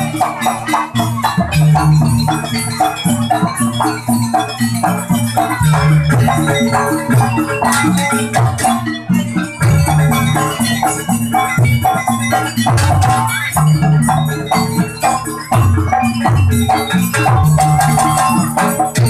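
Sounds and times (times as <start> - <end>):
drums: 0.0 - 19.0
ringing tuned metal percussion: 0.0 - 19.0.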